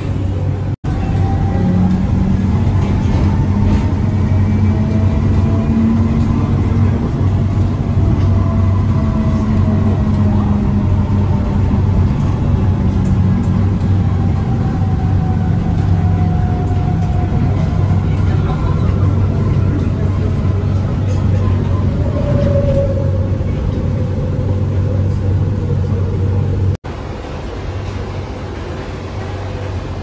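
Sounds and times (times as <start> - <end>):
train low rumble: 0.0 - 30.0.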